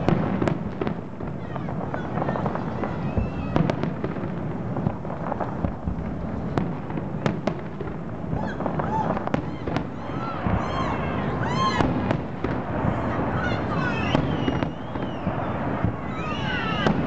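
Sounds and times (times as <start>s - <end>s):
sharp firework bangs and cracks: 0.0s - 17.0s.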